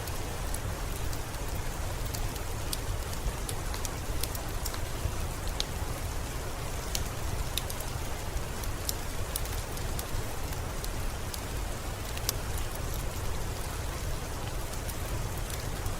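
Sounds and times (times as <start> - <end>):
steady rain: 0.0 - 15.9.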